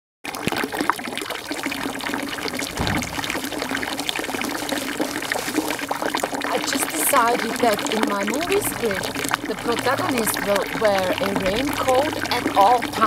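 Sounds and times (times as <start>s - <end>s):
running water trickling and splashing: 0.3s - 13.0s.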